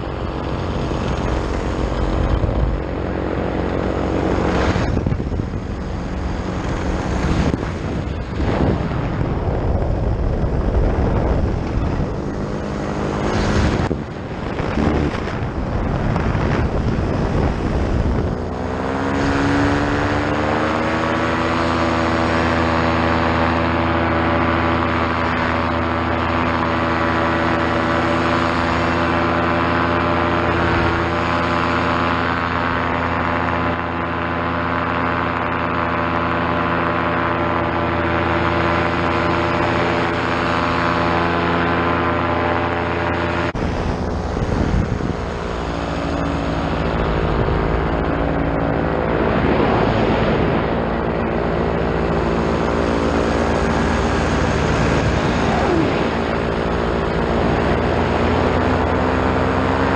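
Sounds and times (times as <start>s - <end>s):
engine and propeller running: 0.0s - 59.9s
wind buffeting microphone: 0.0s - 59.9s.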